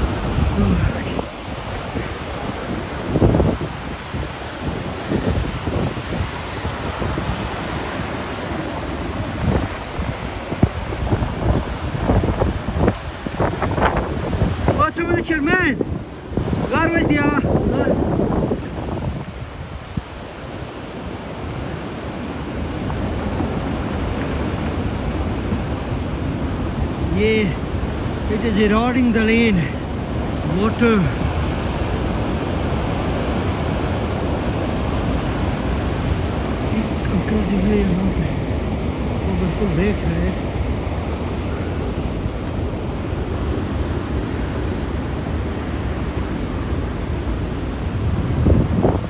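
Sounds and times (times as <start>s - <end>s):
floodwater rushing: 0.0s - 49.0s
wind buffeting microphone: 0.0s - 49.0s.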